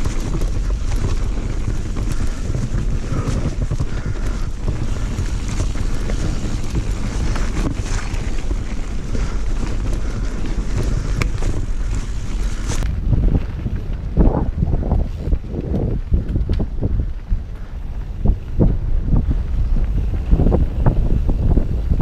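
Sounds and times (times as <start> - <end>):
bike clattering: 0.0 - 22.0
tyres rumbling over rough ground: 0.0 - 22.0
wind buffeting microphone: 0.0 - 22.0.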